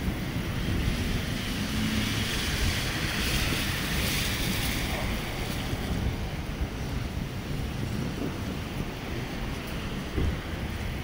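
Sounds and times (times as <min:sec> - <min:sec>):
heavy rain on pavement: 0:00.0 - 0:11.0
wind buffeting microphone: 0:00.0 - 0:11.0.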